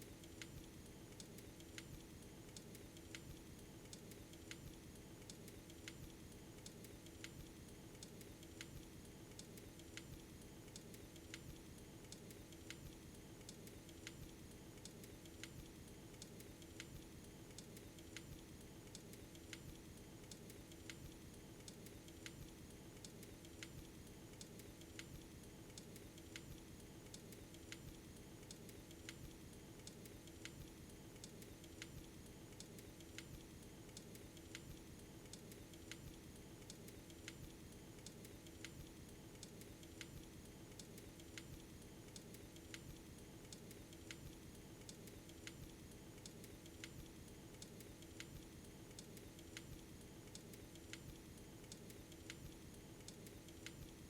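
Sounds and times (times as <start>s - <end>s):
light regular clicks: 0.0s - 54.0s.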